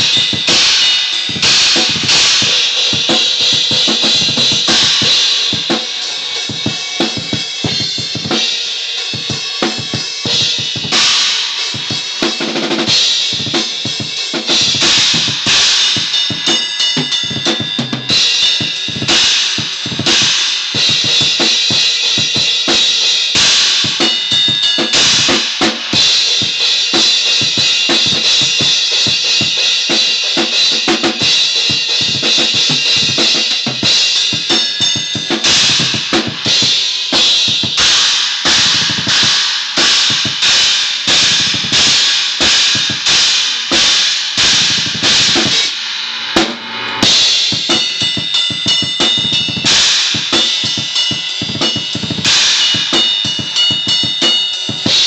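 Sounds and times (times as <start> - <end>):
acoustic drum kit playing: 0.0 - 55.0.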